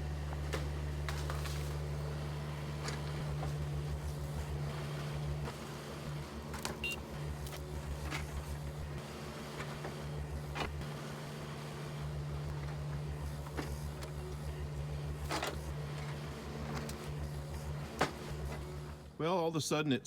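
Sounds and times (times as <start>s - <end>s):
excavator diesel engine running: 0.0s - 19.3s.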